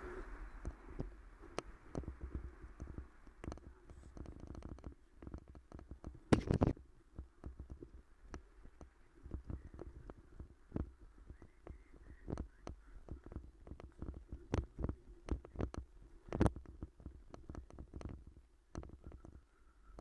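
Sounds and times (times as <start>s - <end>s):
bicycle rattling over rough path: 0.0s - 19.5s.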